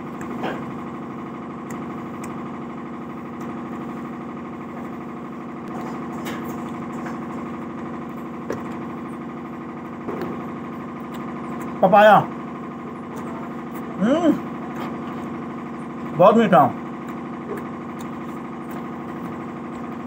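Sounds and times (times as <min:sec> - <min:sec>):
generator engine humming: 0:00.0 - 0:20.0.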